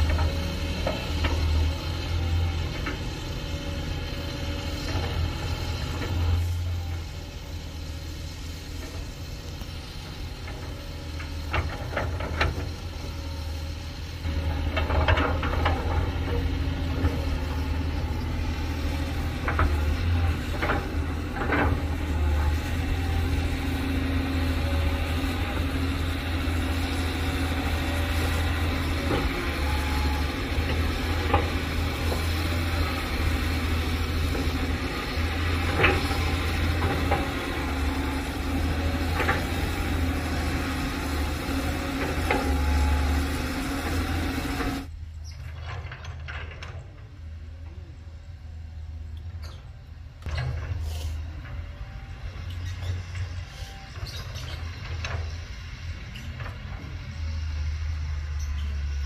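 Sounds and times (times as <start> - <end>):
excavator clanks: 0.0 - 59.0
excavator diesel engine: 0.0 - 59.0.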